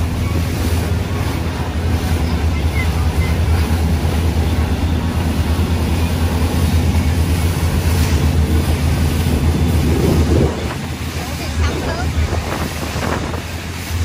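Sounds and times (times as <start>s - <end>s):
motorboat engine droning: 0.0s - 14.0s
water rushing: 0.0s - 14.0s.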